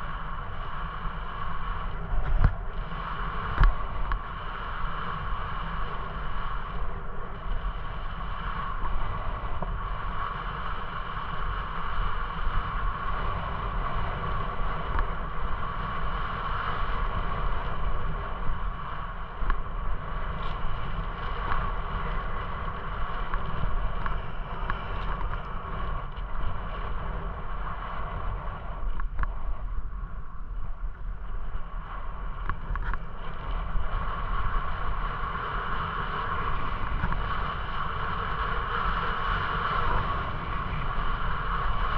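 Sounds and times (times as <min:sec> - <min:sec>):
steady mid-pitched hum: 0:00.0 - 0:41.9
wind rush on microphone: 0:00.0 - 0:41.9.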